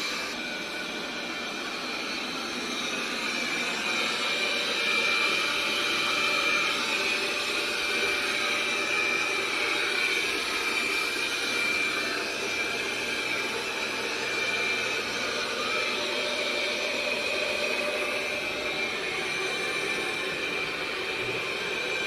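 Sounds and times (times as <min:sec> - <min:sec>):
robot vacuum motor whine: 0:00.0 - 0:22.0.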